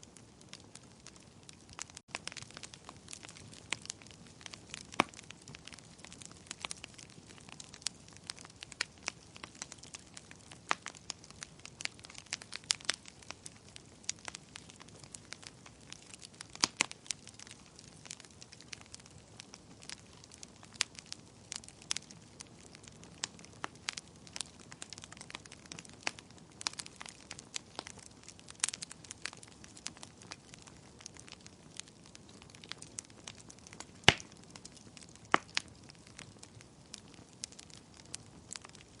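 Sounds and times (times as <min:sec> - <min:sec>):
wood fire crackling and popping: 0:00.0 - 0:39.0.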